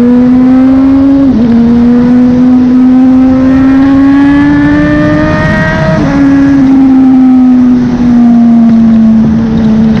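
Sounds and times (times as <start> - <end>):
motorcycle engine running loud: 0.0 - 10.0.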